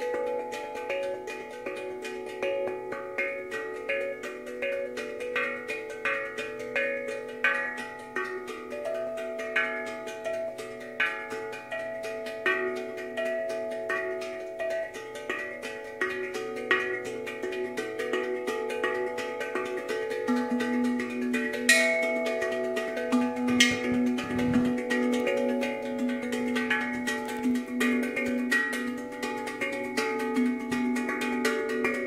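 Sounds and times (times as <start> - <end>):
steel tongue drum melody: 0.0 - 32.0.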